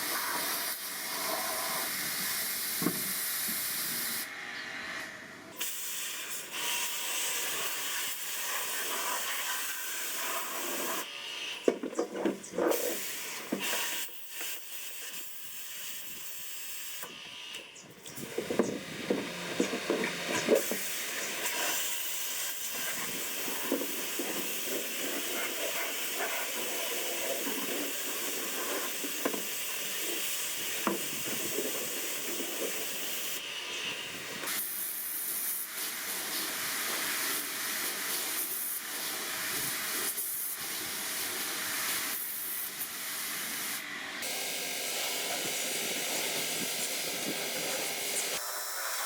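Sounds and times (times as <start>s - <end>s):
high-pressure spray jet hissing: 0.0s - 4.3s, 5.6s - 11.7s, 12.7s - 17.5s, 18.1s - 49.0s.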